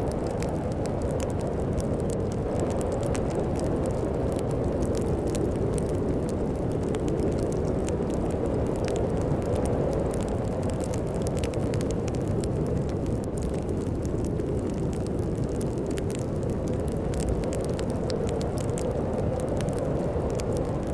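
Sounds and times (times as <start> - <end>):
fireplace fire crackling: 0.0 - 20.9.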